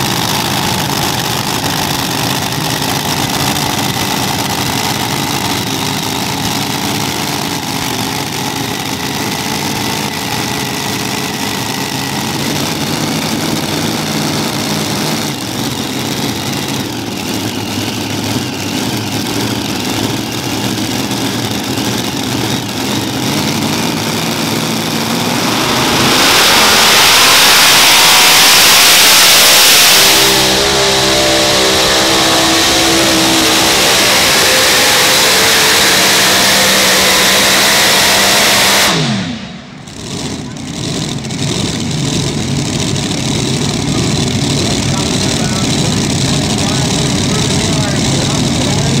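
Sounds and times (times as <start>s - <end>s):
tractor engines rumbling: 0.0s - 49.0s.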